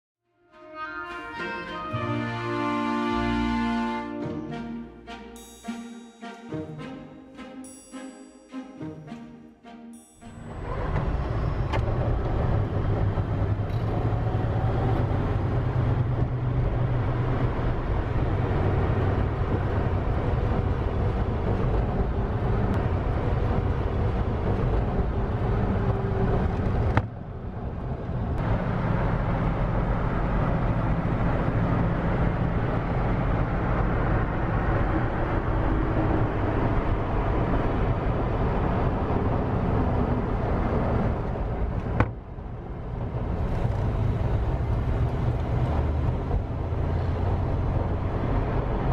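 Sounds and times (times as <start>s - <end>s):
road noise: 0.5s - 48.9s.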